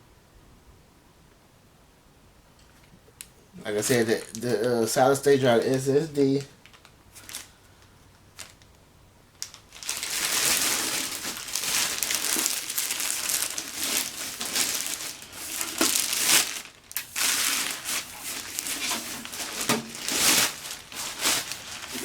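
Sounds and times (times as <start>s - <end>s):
packaging crinkling and rustling: 3.7s - 22.0s.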